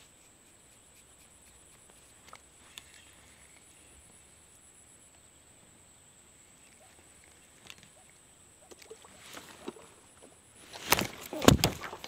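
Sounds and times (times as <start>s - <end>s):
faint high-pitched whine: 0.0s - 12.0s
low hiss: 0.0s - 12.0s.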